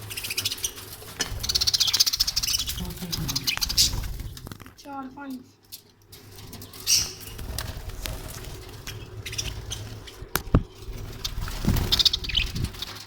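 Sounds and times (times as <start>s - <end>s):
wing flutter: 0.0s - 4.8s, 6.2s - 13.0s.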